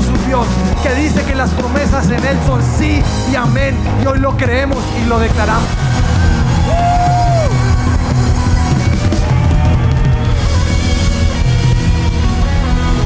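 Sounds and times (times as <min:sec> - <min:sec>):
drum kit: 0:00.0 - 0:13.0
electric guitar: 0:00.0 - 0:13.0
rock worship music: 0:00.0 - 0:13.0.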